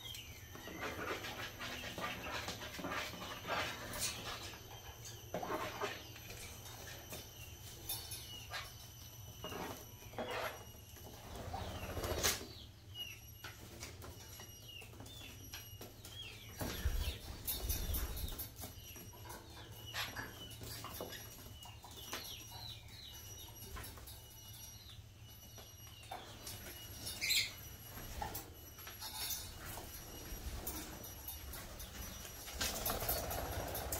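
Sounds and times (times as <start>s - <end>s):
parrots chirping: 0.0s - 33.9s.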